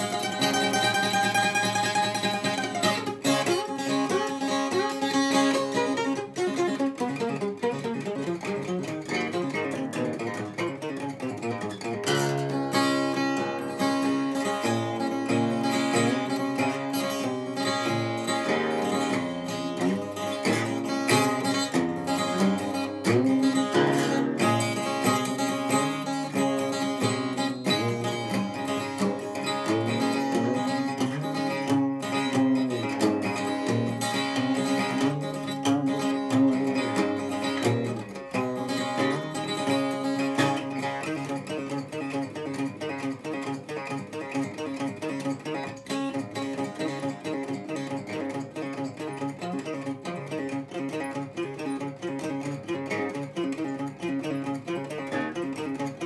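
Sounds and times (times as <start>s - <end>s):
plucked acoustic guitar: 0.0s - 56.0s.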